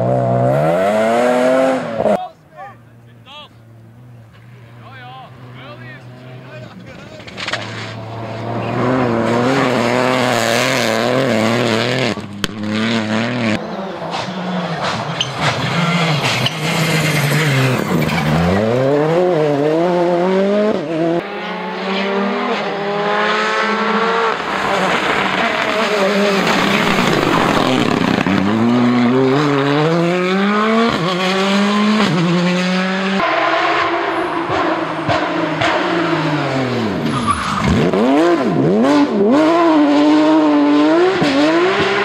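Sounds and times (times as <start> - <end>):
rally car engines revving past: 0.0 - 2.2, 2.9 - 42.0.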